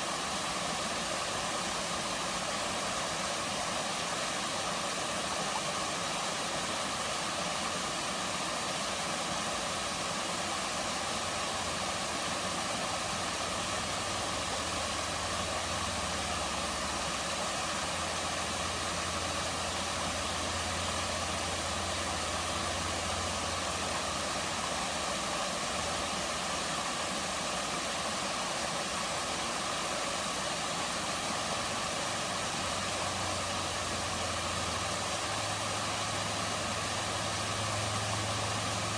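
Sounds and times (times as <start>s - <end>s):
waterfall pouring into pool: 0.0s - 38.9s.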